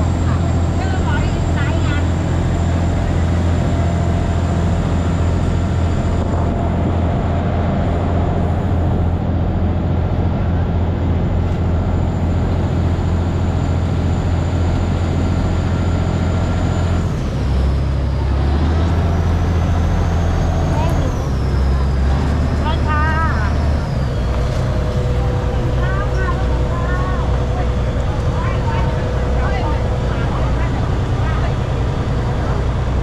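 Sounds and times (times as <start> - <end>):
boat diesel engine droning: 0.0 - 33.0
water rushing along hull: 0.0 - 33.0.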